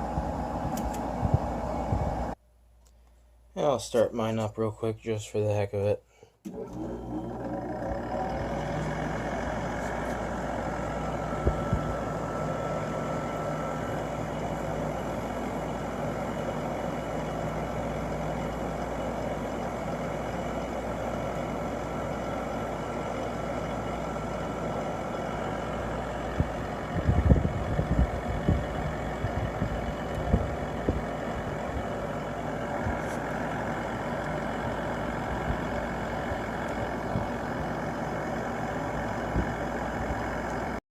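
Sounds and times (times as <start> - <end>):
window air conditioner running: 0.0 - 2.4, 6.5 - 40.8.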